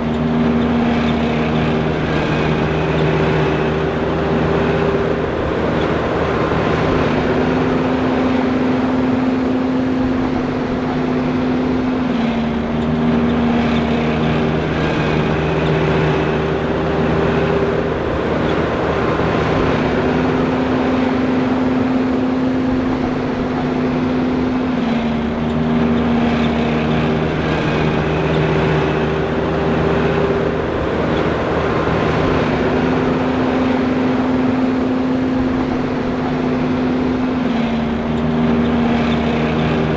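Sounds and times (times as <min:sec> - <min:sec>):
forage harvester droning: 0:00.0 - 0:39.9.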